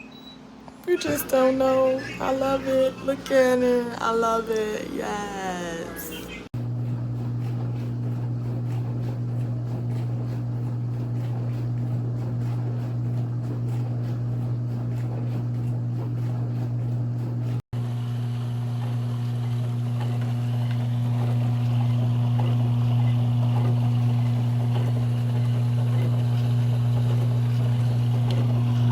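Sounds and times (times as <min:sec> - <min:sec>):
dishwasher motor hum: 0:00.0 - 0:28.9.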